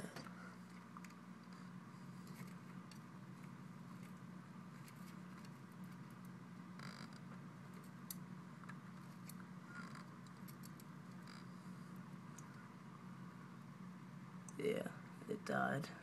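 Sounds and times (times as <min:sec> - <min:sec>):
aquarium filter humming: 0:00.0 - 0:16.0.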